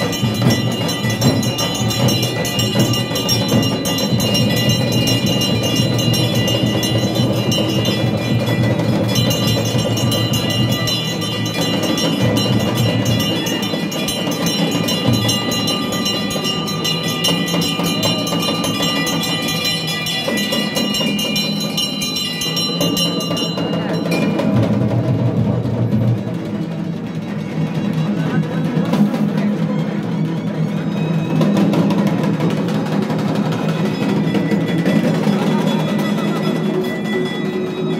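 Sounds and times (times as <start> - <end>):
bells ringing fast: 0.0 - 37.9
drumming: 0.0 - 37.9.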